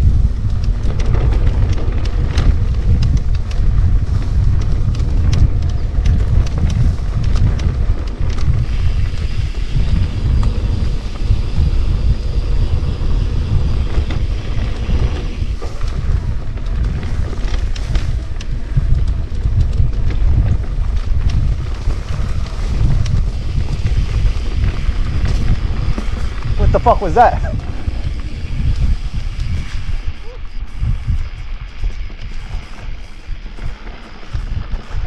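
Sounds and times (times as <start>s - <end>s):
bike clicking and rattling: 0.0s - 35.0s
wind buffeting microphone: 0.0s - 35.0s.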